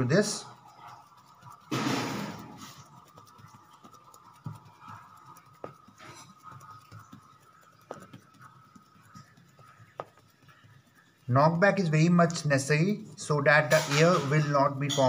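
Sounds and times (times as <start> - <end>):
hands patting dough: 0.0 - 15.0.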